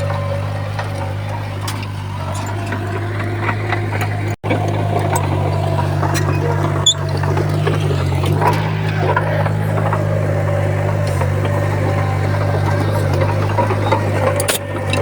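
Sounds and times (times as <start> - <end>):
bulldozer diesel engine running: 0.0 - 15.0
clicks and clanks: 0.0 - 15.0.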